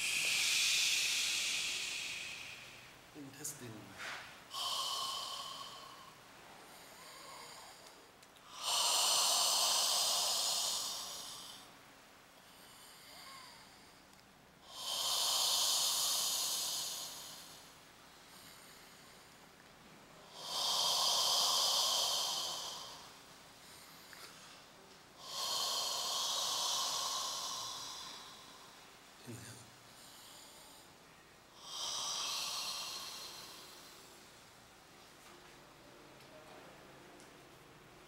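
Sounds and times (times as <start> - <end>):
person breathing deeply: 0.0 - 11.8, 12.4 - 19.5, 20.2 - 34.5.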